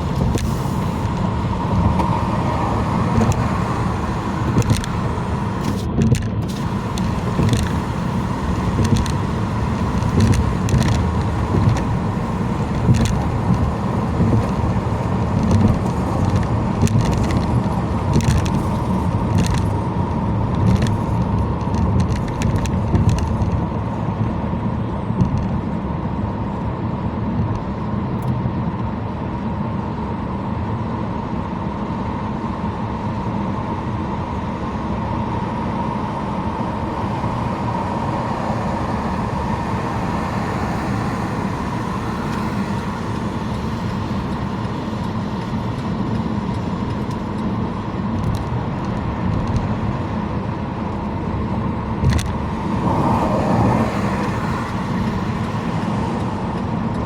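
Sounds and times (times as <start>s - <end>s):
car road and tyre noise: 0.0s - 57.0s.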